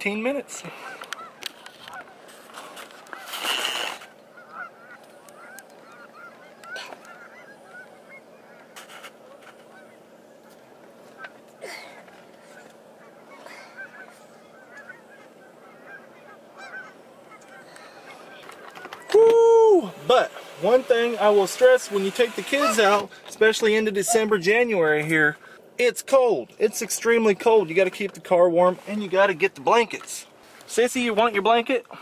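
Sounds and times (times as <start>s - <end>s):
geese honking: 0.0s - 31.9s.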